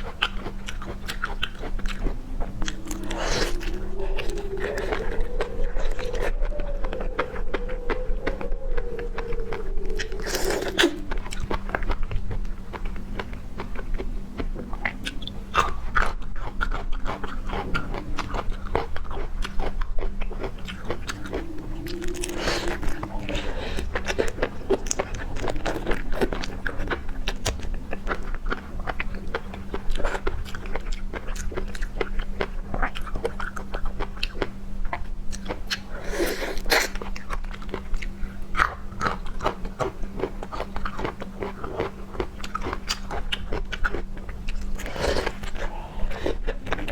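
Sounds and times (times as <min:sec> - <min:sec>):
crunchy chewing of seafood: 0:00.0 - 0:46.9.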